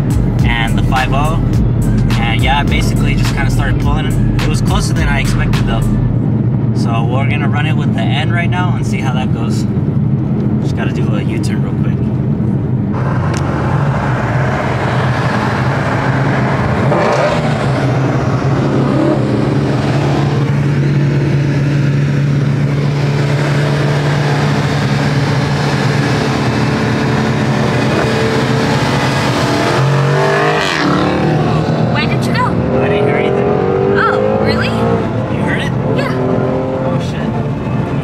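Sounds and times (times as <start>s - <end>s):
car engine driving: 0.0s - 38.0s.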